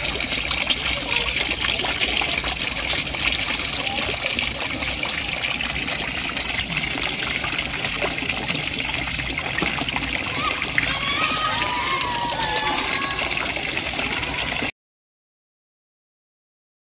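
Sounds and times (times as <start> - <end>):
water running: 0.0 - 14.7.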